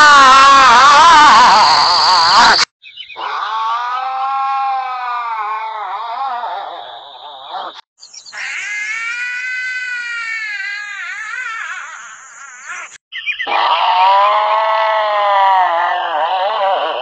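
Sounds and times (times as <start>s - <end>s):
angry cat yowling: 0.0s - 2.6s, 3.2s - 7.5s, 8.4s - 17.0s.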